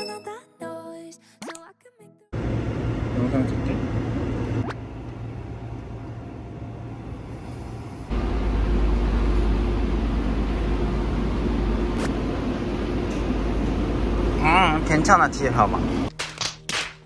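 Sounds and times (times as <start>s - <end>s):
escalator hum: 2.4s - 16.1s
subway car running noise: 2.4s - 16.1s.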